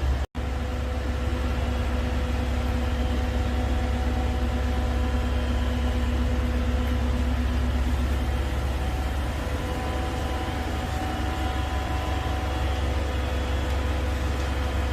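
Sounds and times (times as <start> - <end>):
electrical hum: 0.0 - 14.9
train rumbling: 0.0 - 14.9.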